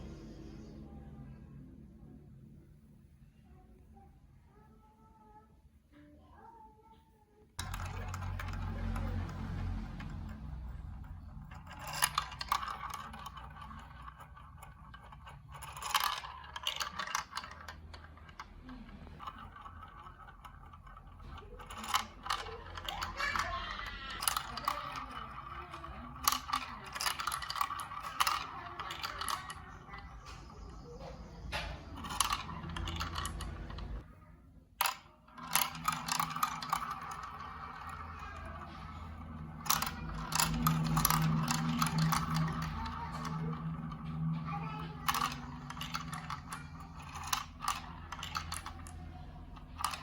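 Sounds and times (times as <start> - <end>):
marbles rolling through plastic run: 7.6 - 34.0, 34.8 - 50.0.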